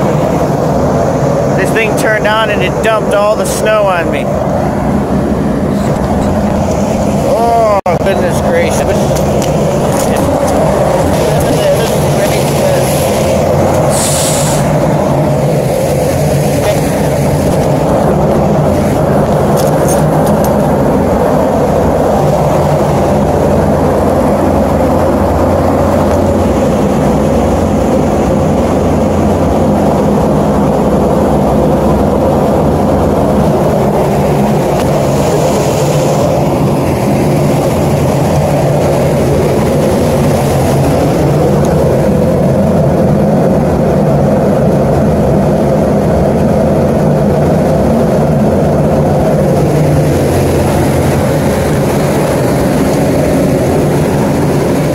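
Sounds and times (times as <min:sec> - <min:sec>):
fan air rushing: 0:00.0 - 0:54.9
low motor hum: 0:00.0 - 0:54.9.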